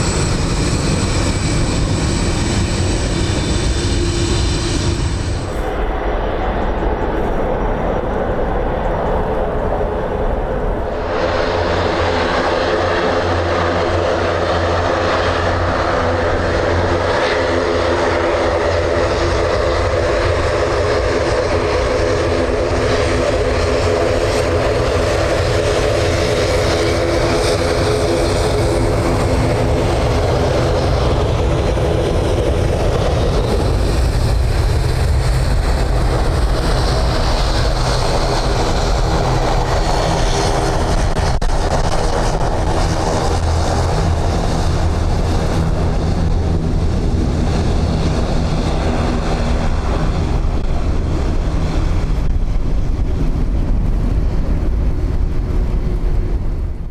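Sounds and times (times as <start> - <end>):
jet engines roaring: 0.0 - 56.9.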